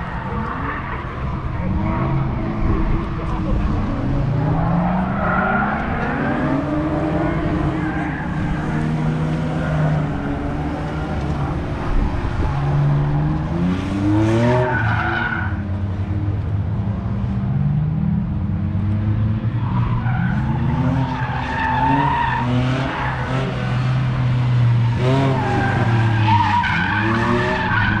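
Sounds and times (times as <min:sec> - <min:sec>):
tyres skidding on tarmac: 0:00.0 - 0:15.8, 0:19.5 - 0:28.0.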